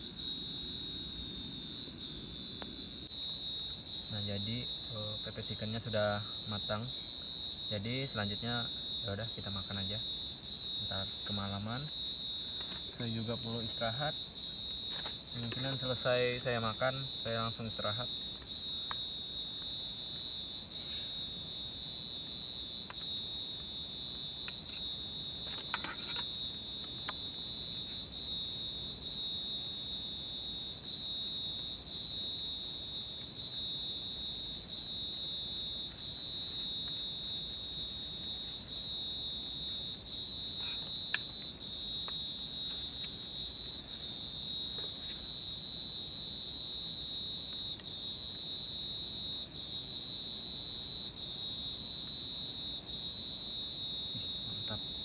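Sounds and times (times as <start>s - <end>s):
insect chorus trilling: 0.0s - 55.0s.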